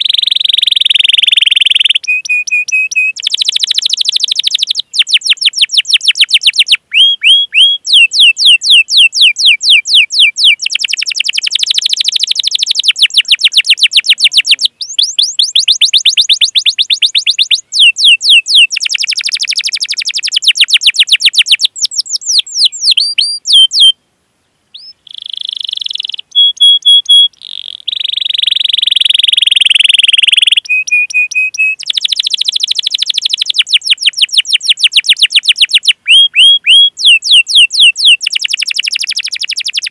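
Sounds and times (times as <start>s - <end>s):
canary singing: 0.0s - 24.0s, 24.7s - 39.9s.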